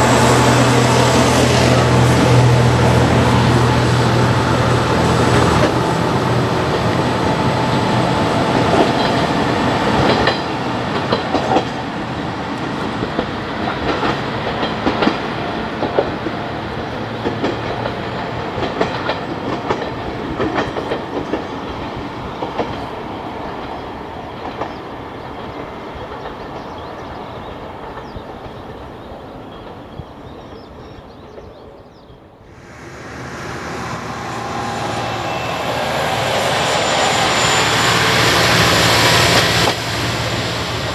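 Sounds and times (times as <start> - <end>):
diesel railcar running: 0.0 - 40.9.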